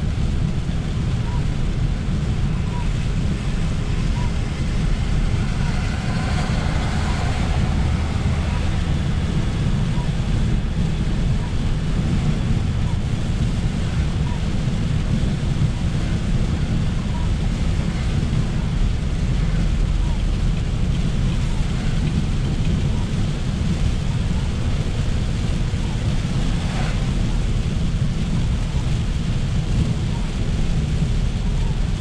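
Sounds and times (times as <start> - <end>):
rain on car: 0.0 - 32.0
tyres rumbling on wet road: 0.0 - 32.0.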